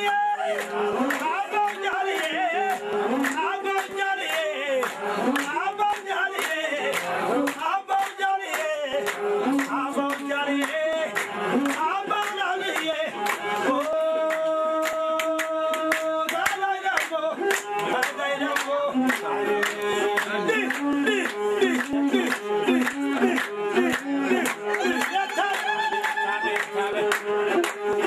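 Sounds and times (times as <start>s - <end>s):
group singing: 0.0s - 28.0s
rhythmic hand clapping: 0.0s - 28.0s.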